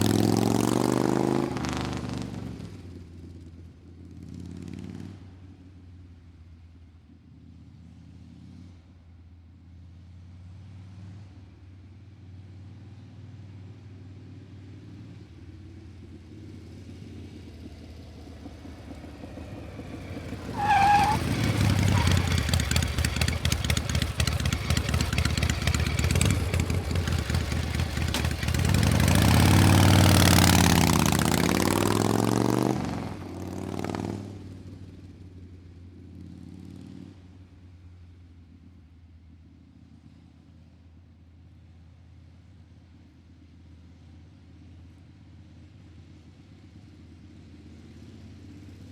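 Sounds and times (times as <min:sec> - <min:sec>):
engine idling and revving: 0:00.0 - 0:40.3.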